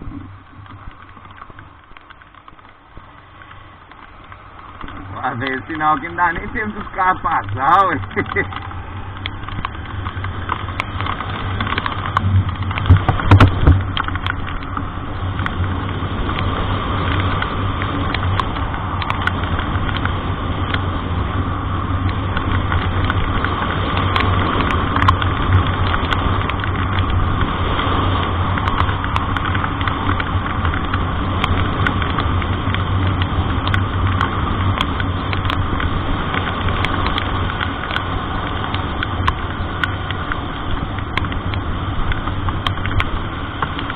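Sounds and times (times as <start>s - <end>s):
rain: 0.0s - 43.9s
vehicle engine running: 0.0s - 43.9s.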